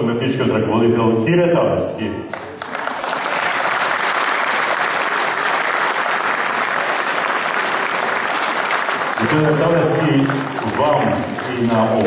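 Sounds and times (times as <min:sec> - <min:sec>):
crowd applauding: 0:02.3 - 0:12.0.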